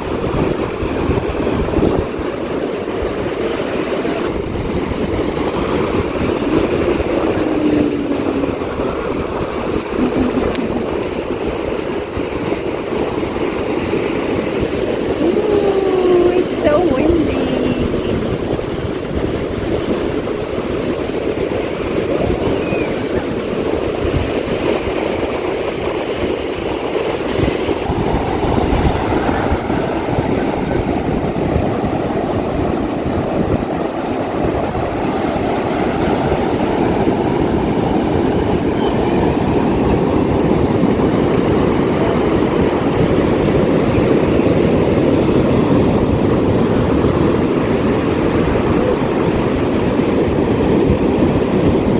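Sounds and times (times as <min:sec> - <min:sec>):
waves breaking on beach: 0:00.0 - 0:51.9
wind buffeting microphone: 0:00.0 - 0:51.9.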